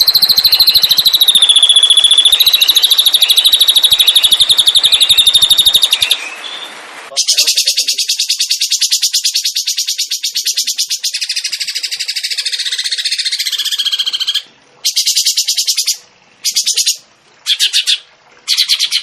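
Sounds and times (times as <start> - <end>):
higher buzzy bird trill: 0.0 - 19.0
songbird trilling: 0.0 - 19.0.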